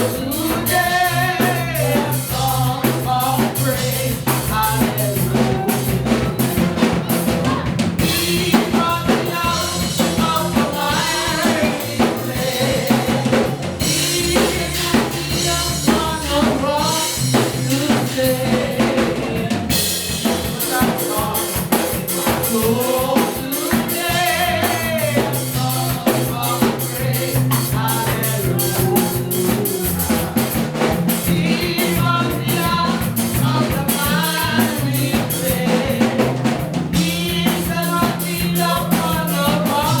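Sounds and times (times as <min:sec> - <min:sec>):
drum kit beat: 0:00.0 - 0:40.0
sustained bass notes: 0:00.0 - 0:40.0
voices singing: 0:00.0 - 0:40.0.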